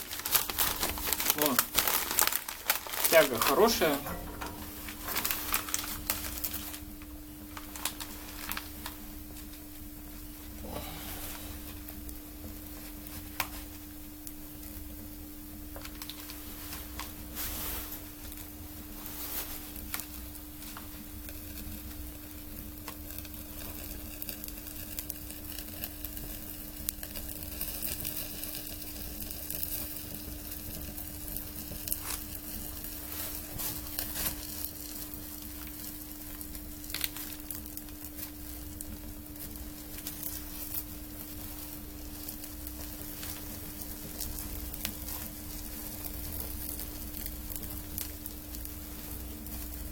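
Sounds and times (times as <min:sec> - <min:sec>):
steady low hum: 0:00.0 - 0:49.9
wood fire crackling and popping: 0:00.0 - 0:49.9.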